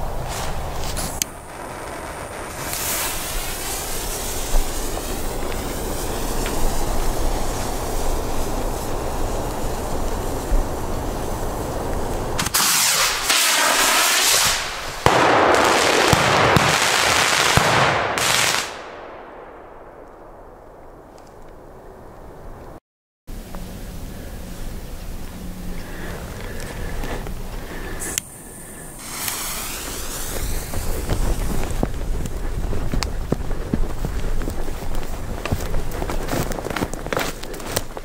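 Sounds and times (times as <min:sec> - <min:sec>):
fireworks hissing and crackling: 0:00.0 - 0:19.0, 0:22.6 - 0:38.0
sharp firework cracks: 0:00.2 - 0:22.8, 0:28.0 - 0:38.0.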